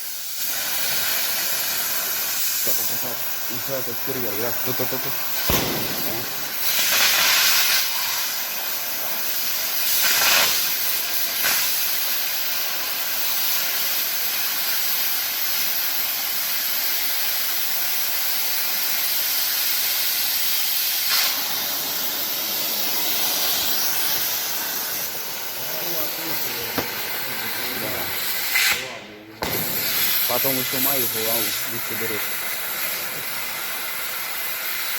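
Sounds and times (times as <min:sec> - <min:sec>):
cutting torch hissing: 0:00.0 - 0:34.9.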